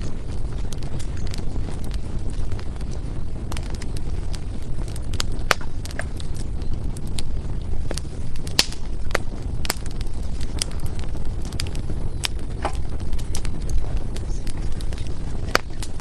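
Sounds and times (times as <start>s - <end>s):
firewood popping and snapping: 0.0s - 16.0s
low rumble of flames: 0.0s - 16.0s.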